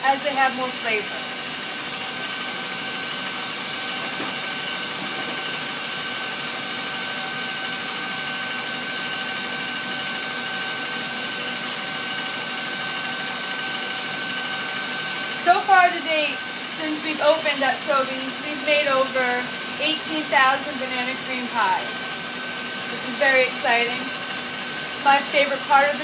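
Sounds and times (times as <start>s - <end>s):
stand mixer whirring: 0.0s - 26.0s.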